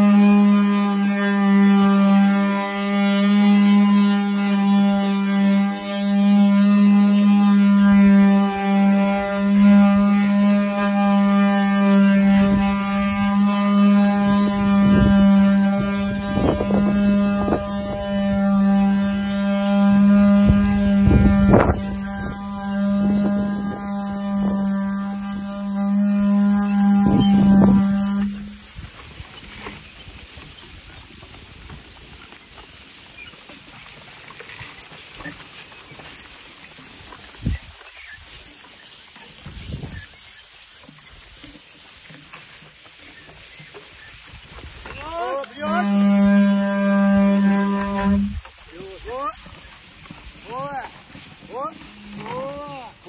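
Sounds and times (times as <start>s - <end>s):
wooden cart axle droning whine: 0.0s - 53.0s
soft hoof treads on grass: 0.1s - 53.0s.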